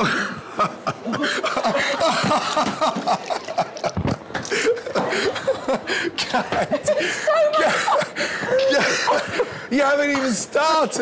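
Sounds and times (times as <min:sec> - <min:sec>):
people laughing and chattering: 0:00.0 - 0:11.0.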